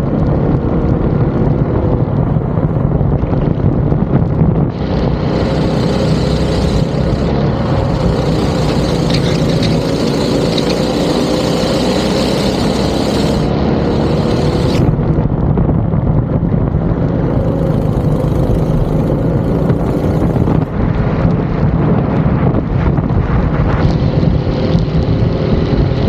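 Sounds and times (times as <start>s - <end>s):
go-kart engine running hard: 0.0s - 26.0s.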